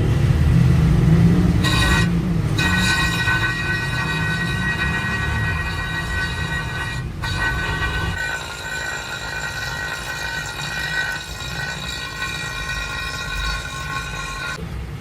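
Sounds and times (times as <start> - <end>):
low machine rumble: 0.0 - 15.0
metalworking machine squealing: 1.6 - 14.6.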